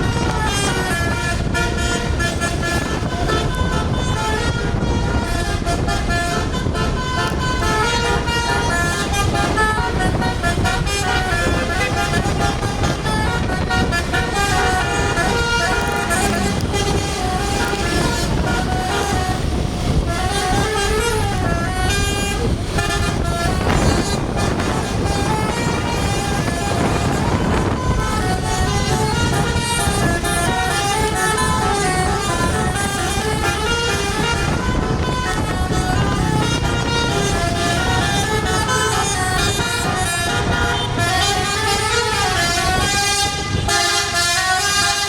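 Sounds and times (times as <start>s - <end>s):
bus engine rumble: 0.0s - 45.0s
multi-tone air horn tune: 0.0s - 45.0s.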